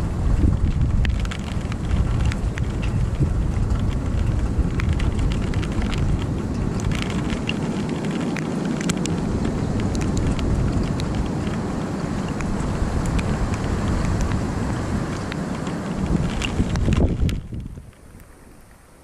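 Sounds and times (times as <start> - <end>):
rain falling: 0.0 - 19.0
raindrops ticking on surfaces: 0.0 - 19.0
wind buffeting the microphone: 0.0 - 19.0.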